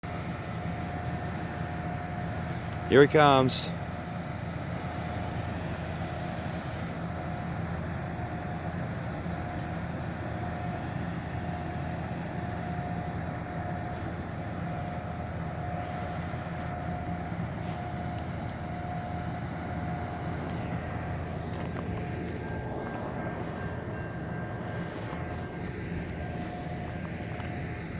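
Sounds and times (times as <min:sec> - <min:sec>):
diesel locomotive engines droning: 0:00.0 - 0:27.9
locomotive whine: 0:00.0 - 0:27.9.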